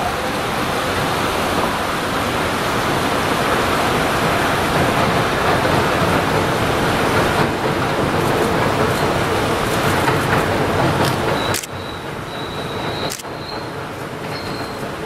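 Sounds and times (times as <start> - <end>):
train rumbling onto steel bridge: 0.0 - 15.0.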